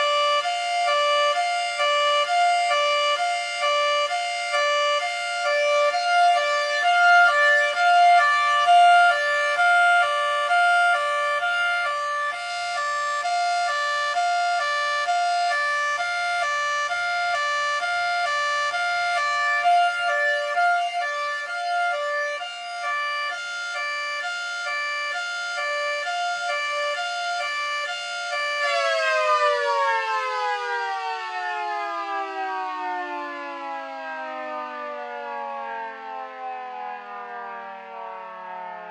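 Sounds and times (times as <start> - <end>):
siren winding down: 0.0 - 38.9
two-tone siren: 0.0 - 38.9.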